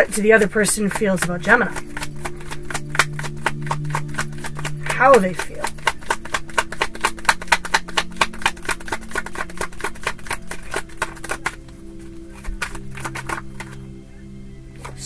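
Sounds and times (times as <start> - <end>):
cards being shuffled: 0.3 - 13.9, 14.8 - 15.0.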